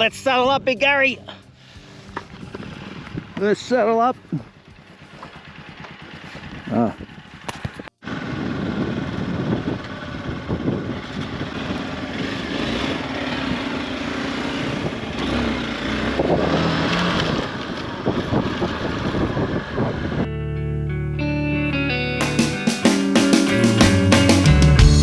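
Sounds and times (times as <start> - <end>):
motorcycle running: 0.0 - 25.0.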